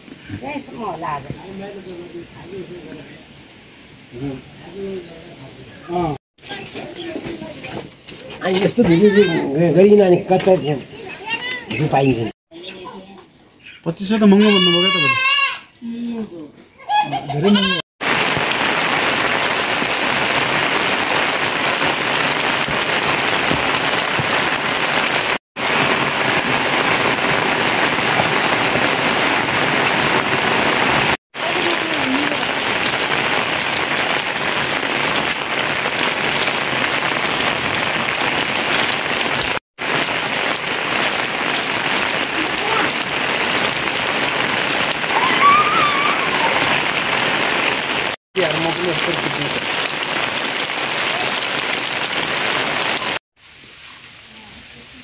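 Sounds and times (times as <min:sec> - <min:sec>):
steady rain falling: 0:00.0 - 0:16.5, 0:17.1 - 0:55.0.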